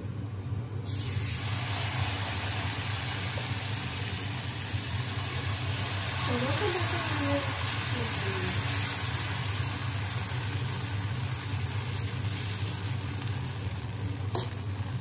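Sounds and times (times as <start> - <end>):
steady low hum: 0.0 - 15.0
batter sizzling on hot griddle: 0.8 - 15.0.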